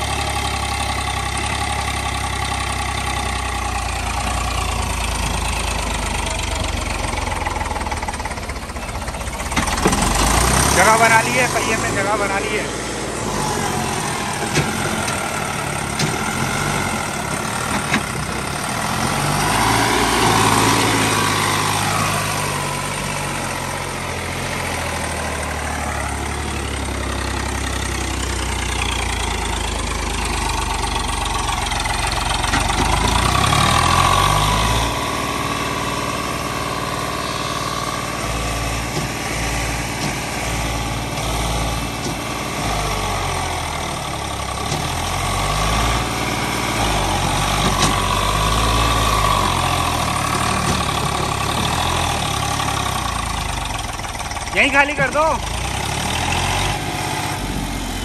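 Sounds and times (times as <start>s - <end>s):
tractor diesel engine straining: 0.0s - 58.0s.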